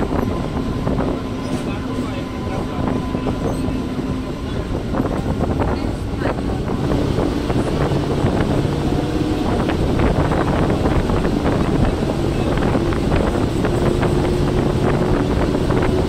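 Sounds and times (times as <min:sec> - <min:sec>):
moving train running noise: 0:00.0 - 0:16.0
wind buffeting microphone: 0:00.0 - 0:16.0.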